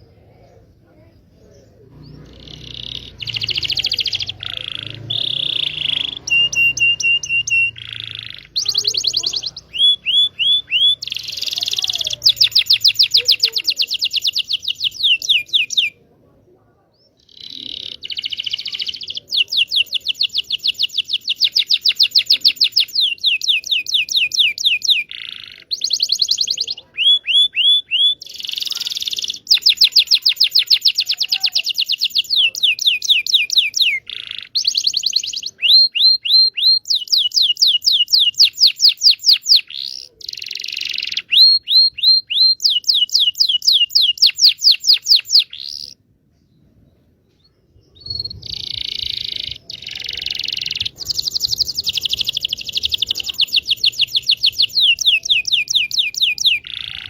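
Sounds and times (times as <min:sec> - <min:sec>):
canary singing: 0:00.0 - 0:16.1, 0:17.0 - 0:46.1, 0:47.8 - 0:57.0.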